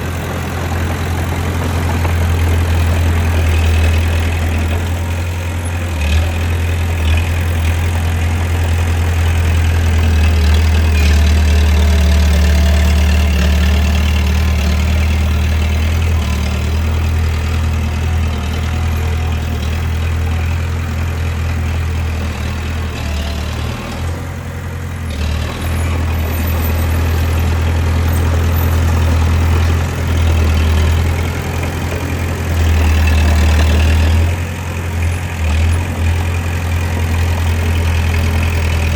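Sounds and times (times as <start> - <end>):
bulldozer diesel engine drone: 0.0 - 38.9.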